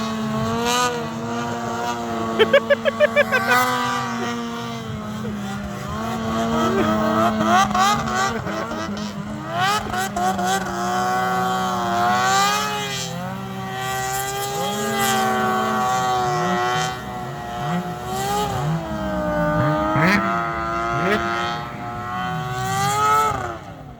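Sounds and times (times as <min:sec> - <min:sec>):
snowmobile engine revving: 0:00.0 - 0:23.9.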